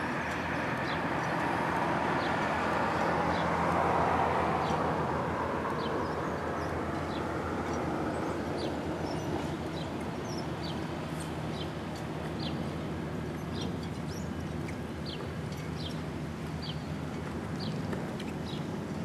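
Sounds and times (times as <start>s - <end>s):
boat engine drone: 0.0s - 19.0s.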